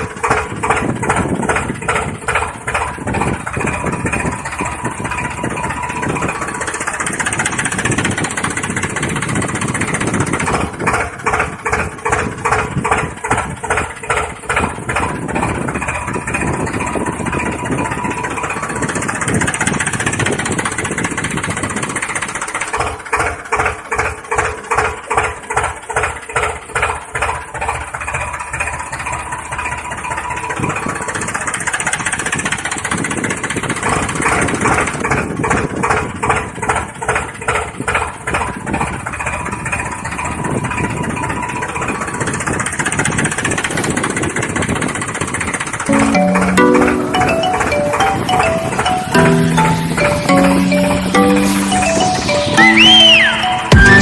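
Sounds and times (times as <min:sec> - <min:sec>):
tractor engine chugging: 0:00.0 - 0:45.9.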